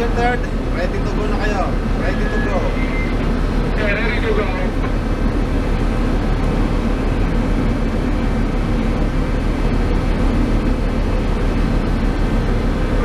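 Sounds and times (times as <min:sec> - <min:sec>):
loud machinery drone: 0:00.0 - 0:13.0.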